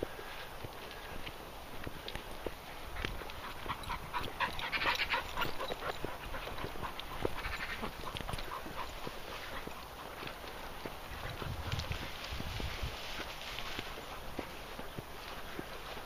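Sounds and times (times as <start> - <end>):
dogs panting: 0.0 - 16.0
footsteps on grass: 0.0 - 16.0
grass rustling: 0.0 - 16.0.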